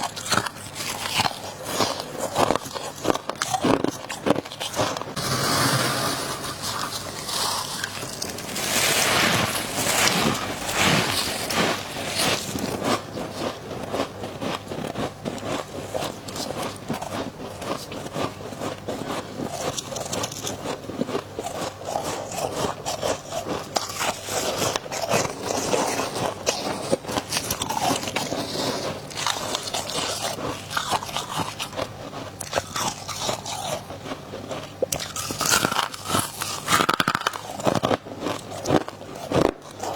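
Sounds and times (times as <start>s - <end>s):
crunching of freezer frost: 0.0s - 39.9s.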